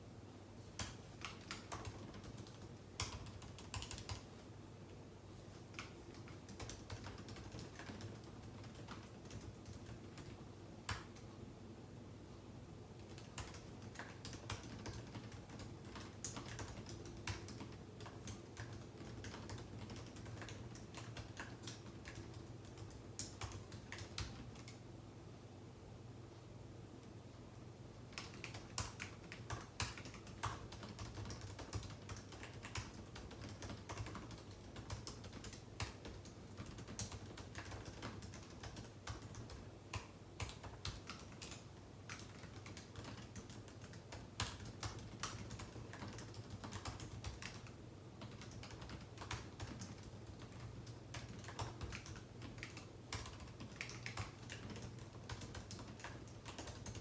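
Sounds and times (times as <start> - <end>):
low steady hum: 0.0 - 57.0
typing on keyboard: 0.7 - 4.4, 5.5 - 11.4, 13.0 - 24.8, 28.0 - 57.0.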